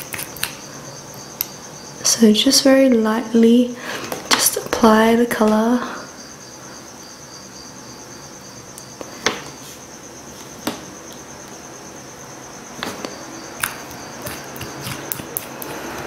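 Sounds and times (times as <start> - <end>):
cricket trilling: 0.0 - 16.0.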